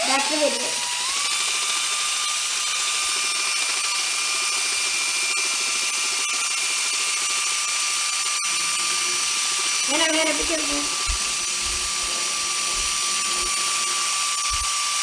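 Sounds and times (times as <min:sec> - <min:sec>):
power drill whining: 0:00.0 - 0:15.0.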